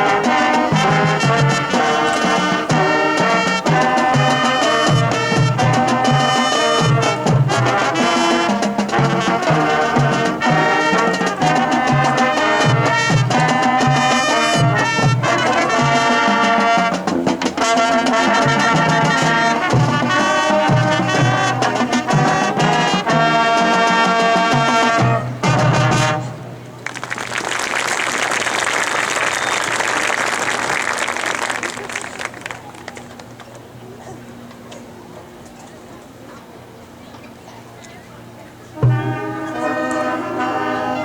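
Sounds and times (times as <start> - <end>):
brass section playing chords: 0.0 - 32.8, 38.8 - 41.0.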